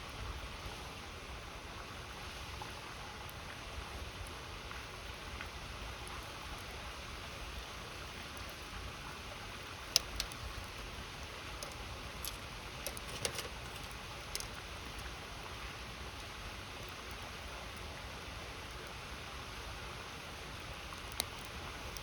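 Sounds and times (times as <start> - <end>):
wood fire crackling: 1.5 - 22.0.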